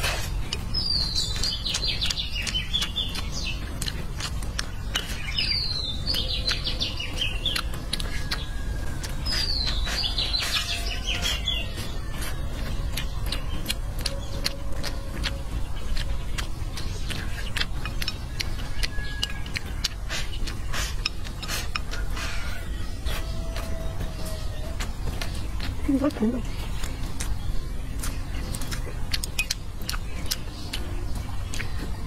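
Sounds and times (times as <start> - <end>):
close chewing: 0.0 - 32.0
songbird singing: 0.0 - 32.0.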